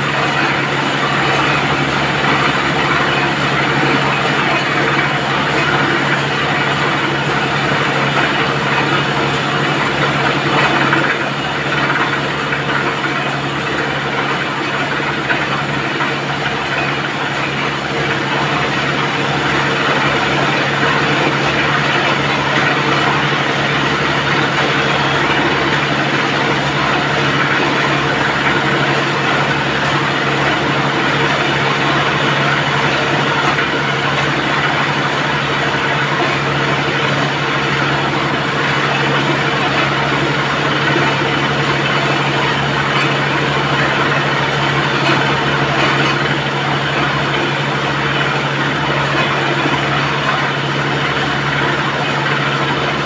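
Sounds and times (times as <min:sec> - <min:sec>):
drilling rig engine droning: 0:00.0 - 0:53.0
water gushing and splashing: 0:00.0 - 0:53.0.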